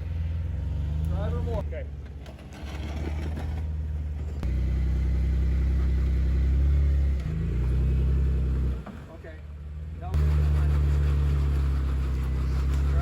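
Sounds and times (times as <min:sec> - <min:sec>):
off-road engine running under load: 0:00.0 - 0:13.0.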